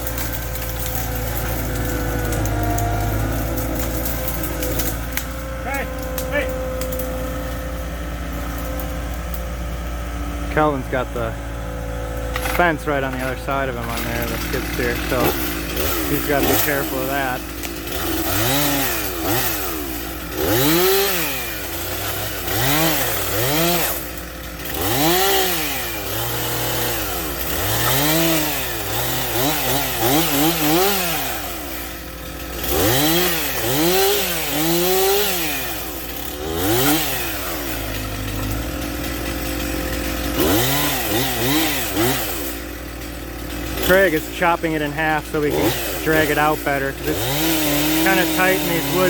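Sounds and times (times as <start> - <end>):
chainsaw revving and cutting wood: 0.0 - 49.0.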